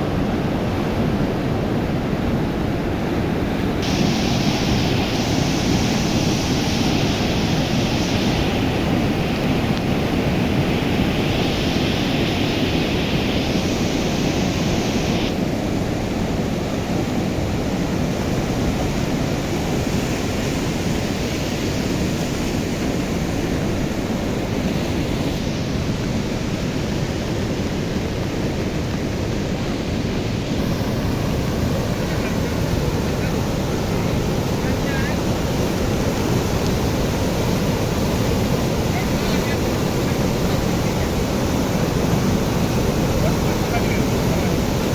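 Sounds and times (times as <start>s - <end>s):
flooded river rushing: 0.0s - 44.9s.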